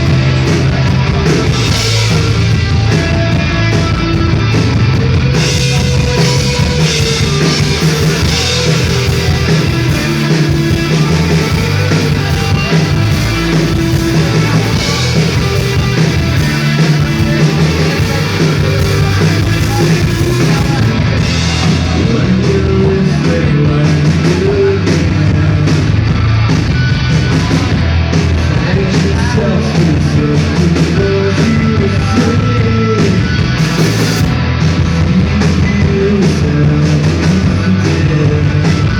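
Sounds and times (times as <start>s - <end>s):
live band playing loud rock: 0.0s - 38.9s.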